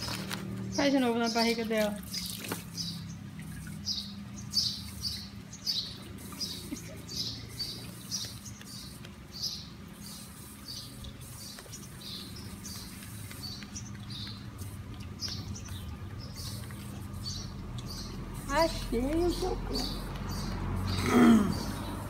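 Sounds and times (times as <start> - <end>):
hands scrubbing wet fur: 0.0 - 22.0.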